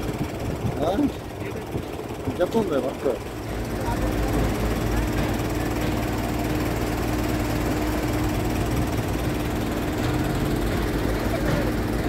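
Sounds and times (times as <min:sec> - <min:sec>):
heavy construction machinery engine: 0:00.0 - 0:12.0.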